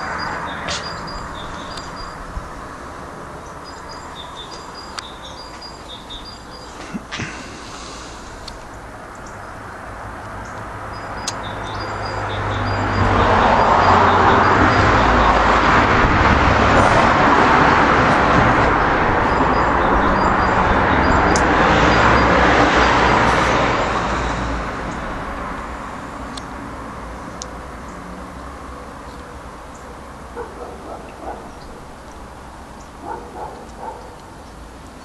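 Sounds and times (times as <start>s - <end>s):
vehicle passing by: 5.7s - 34.2s.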